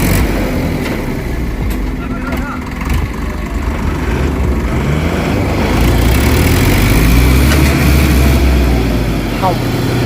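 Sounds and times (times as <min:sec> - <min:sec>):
diesel engine running hard: 0:00.0 - 0:10.0.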